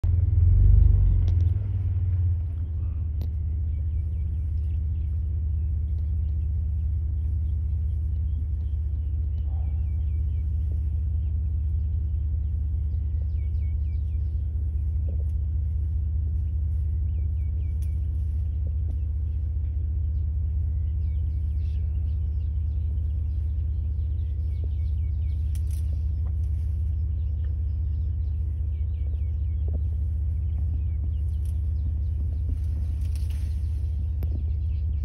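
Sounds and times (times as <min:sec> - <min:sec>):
small birds chirping: 0:00.0 - 0:35.0
vehicle engine idling: 0:00.0 - 0:35.0.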